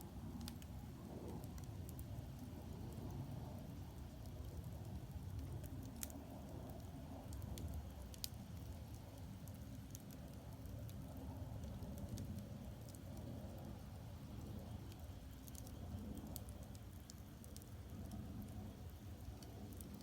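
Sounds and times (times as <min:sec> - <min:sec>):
fire crackles and pops: 0:00.0 - 0:20.0
fire rumbling: 0:00.0 - 0:20.0.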